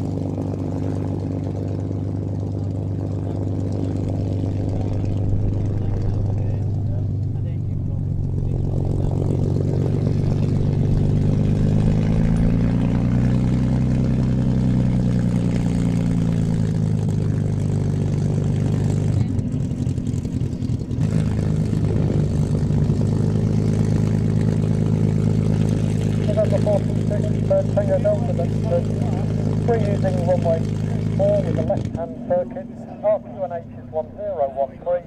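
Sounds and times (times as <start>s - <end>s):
piston aircraft engine running: 0.0s - 35.0s.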